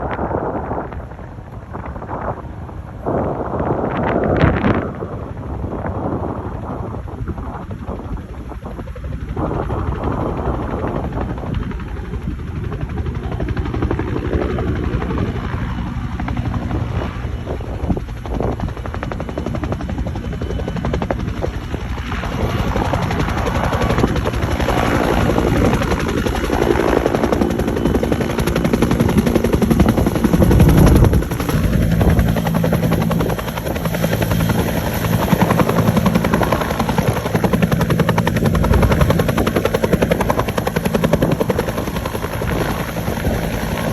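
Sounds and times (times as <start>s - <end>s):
helicopter rotor beating: 0.0s - 43.9s.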